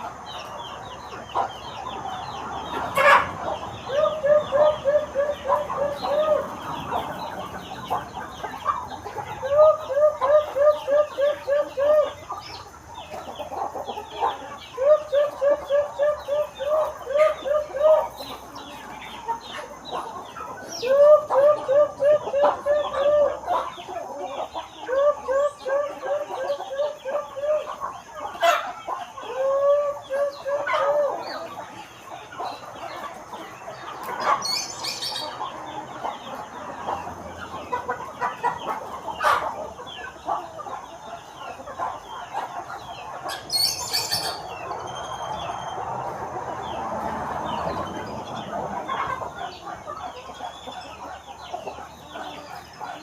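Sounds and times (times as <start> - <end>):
chickens clucking and calling: 0.0 - 53.0.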